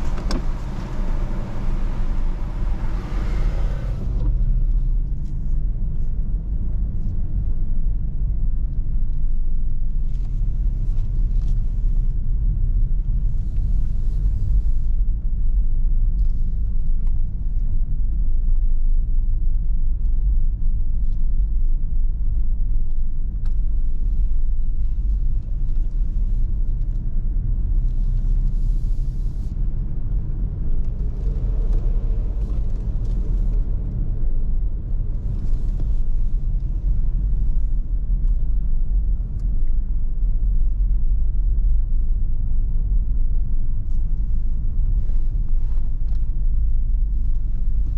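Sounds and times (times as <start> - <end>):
car driving rumble inside cabin: 0.0 - 47.9.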